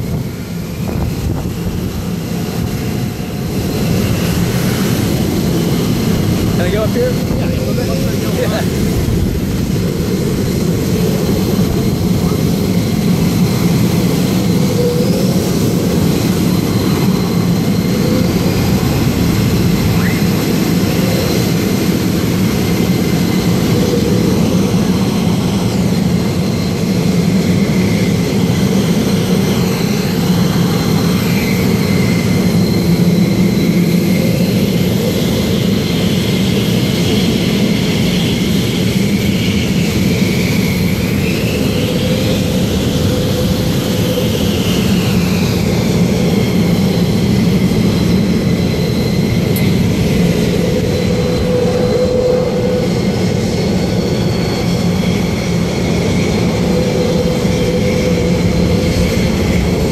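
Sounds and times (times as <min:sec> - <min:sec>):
jet engines idling roar: 0:00.0 - 0:59.9.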